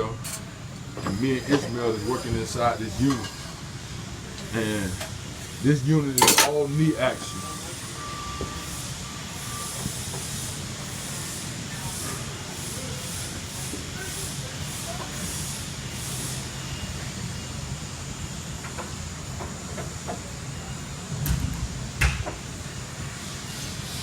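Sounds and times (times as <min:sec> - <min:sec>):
mechanical rumble and hiss: 0:00.0 - 0:24.0.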